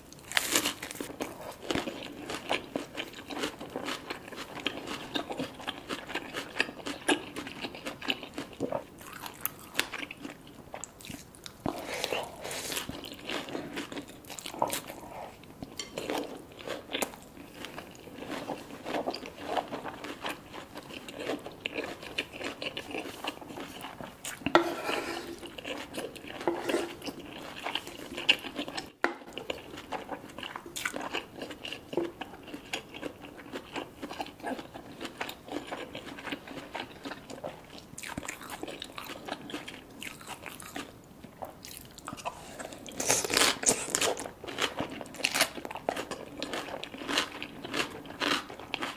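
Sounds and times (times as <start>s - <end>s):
crunchy food being chewed: 0.0s - 48.9s.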